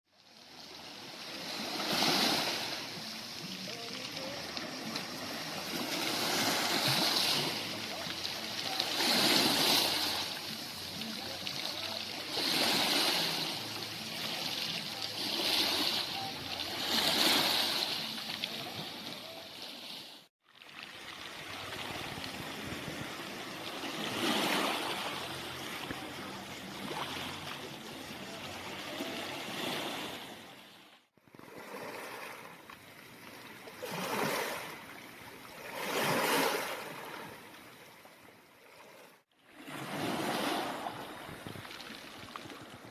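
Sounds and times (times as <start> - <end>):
small waves washing onto shore: 0.1 - 42.9.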